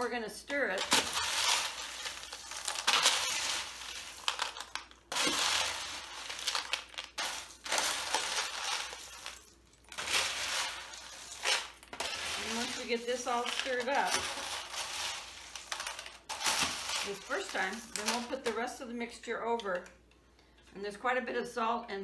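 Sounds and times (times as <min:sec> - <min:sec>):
dry cereal crunching when stirred: 0:00.6 - 0:18.6
foil pan crinkling: 0:00.6 - 0:18.7.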